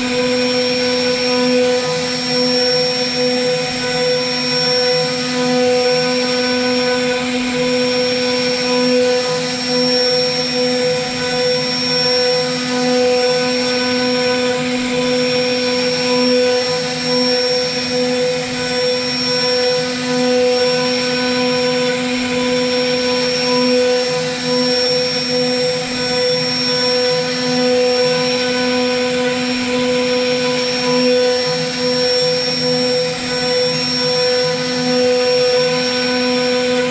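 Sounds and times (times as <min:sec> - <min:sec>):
router spindle whine: 0:00.0 - 0:36.9.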